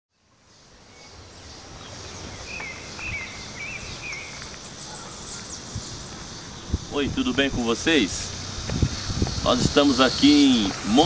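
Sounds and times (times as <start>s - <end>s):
insects droning: 0.3s - 11.0s
warbling bird calls: 0.6s - 11.0s.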